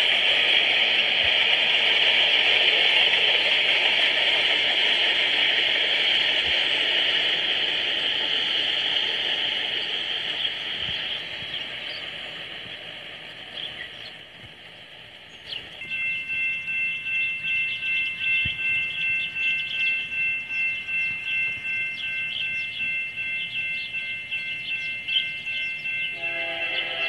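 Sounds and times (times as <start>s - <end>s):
freight train wheels rushing on rails: 0.0s - 27.0s.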